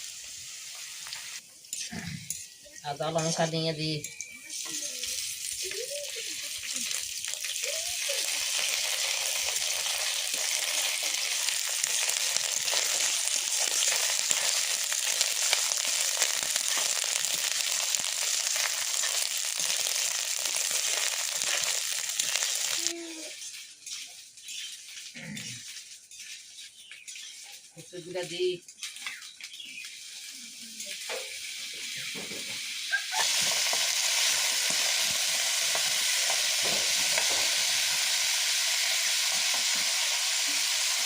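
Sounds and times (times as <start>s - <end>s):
spices sizzling in hot oil: 0.0s - 41.0s.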